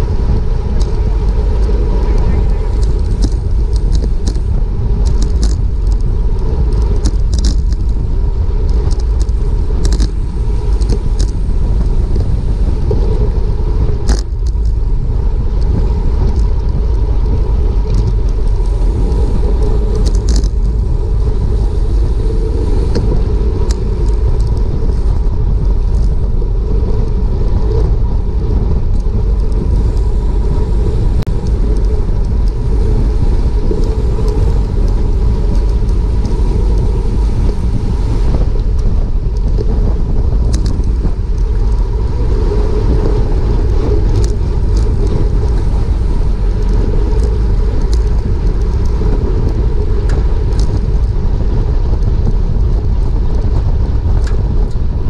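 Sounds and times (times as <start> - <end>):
bicycle clicks and rattles: 0.0 - 55.0
wind rumbling on microphone: 0.0 - 55.0.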